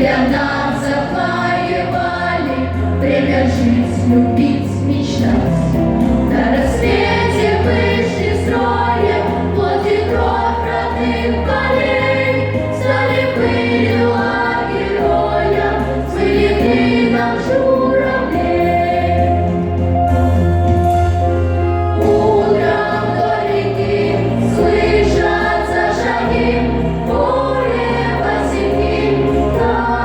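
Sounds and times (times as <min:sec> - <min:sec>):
choir singing: 0:00.0 - 0:30.0
instrumental backing with bass: 0:00.0 - 0:30.0.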